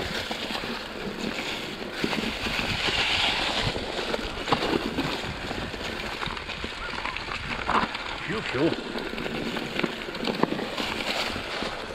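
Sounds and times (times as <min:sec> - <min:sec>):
bike frame and chain clattering: 0:00.0 - 0:11.9
bike tyres crunching on ground: 0:00.0 - 0:11.9.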